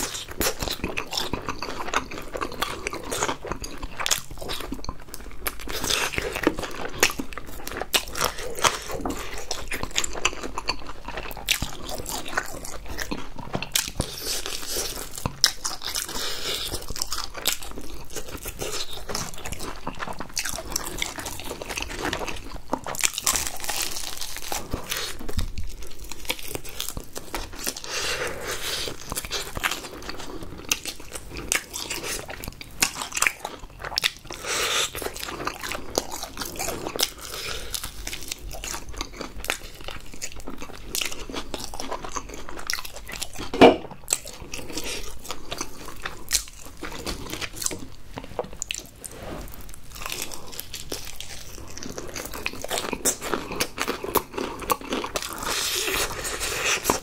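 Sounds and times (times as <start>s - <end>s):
crunching fried chicken: 0.0s - 49.1s, 49.7s - 57.0s.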